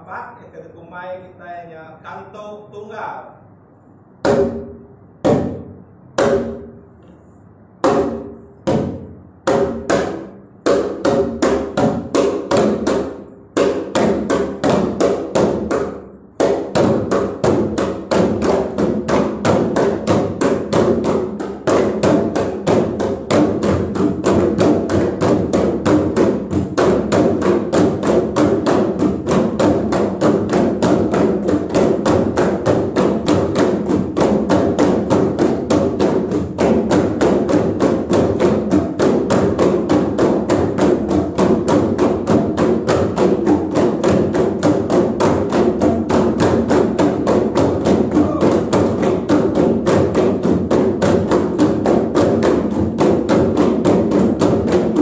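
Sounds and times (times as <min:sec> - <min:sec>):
drums played together: 0:07.8 - 0:55.0.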